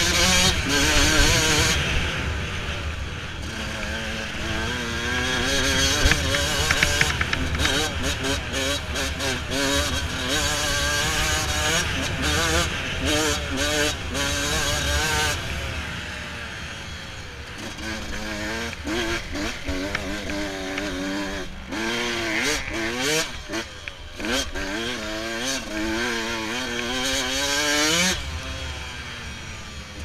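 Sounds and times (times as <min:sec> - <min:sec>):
two-stroke dirt bike engine revving: 0:00.0 - 0:30.0.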